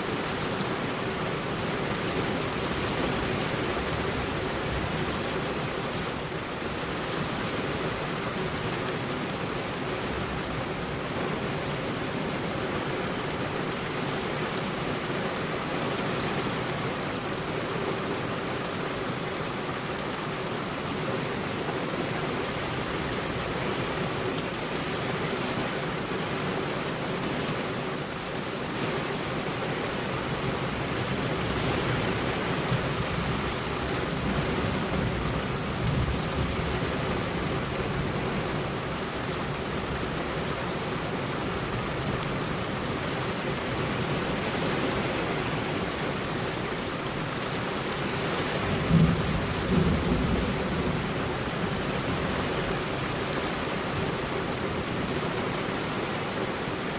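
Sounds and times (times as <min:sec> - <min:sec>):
heavy rain on a road: 0:00.0 - 0:56.9.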